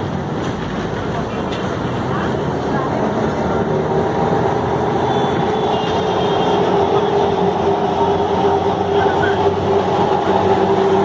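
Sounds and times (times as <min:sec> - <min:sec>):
electric tram rumbling: 0:00.0 - 0:11.0
tram whine: 0:00.0 - 0:11.0.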